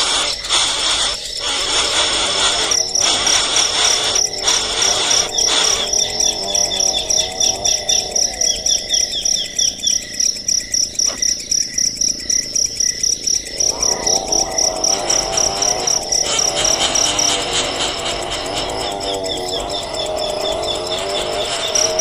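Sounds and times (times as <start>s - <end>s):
baby birds chirping: 0.0s - 10.0s, 13.6s - 22.0s.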